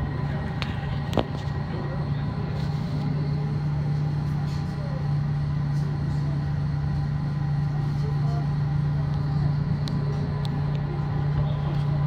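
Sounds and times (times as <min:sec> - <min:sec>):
ferry engines humming: 0:00.0 - 0:12.0.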